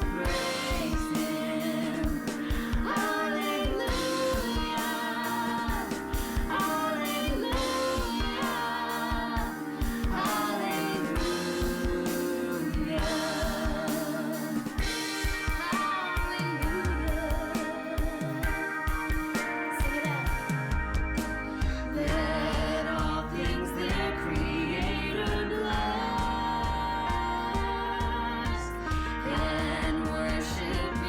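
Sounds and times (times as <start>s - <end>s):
person singing: 0.0s - 20.8s, 21.5s - 31.0s
drum kit beat: 0.0s - 31.0s
guitar: 0.0s - 31.0s.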